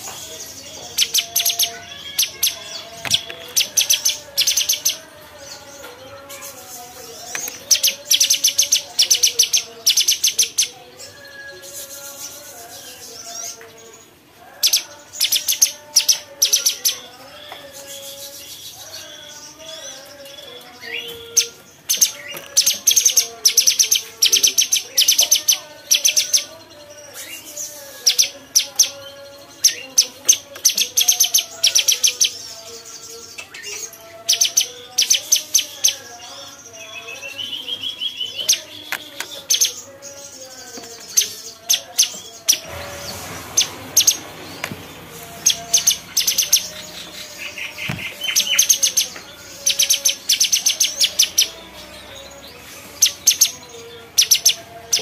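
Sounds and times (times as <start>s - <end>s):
bulbul fast rattling song: 0.0s - 10.8s, 14.0s - 17.2s, 20.9s - 36.7s, 38.3s - 51.7s, 52.3s - 55.0s.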